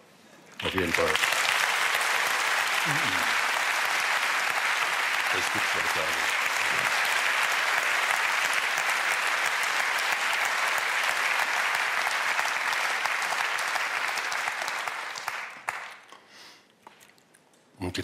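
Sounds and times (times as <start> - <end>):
audience applauding: 0.6 - 16.1.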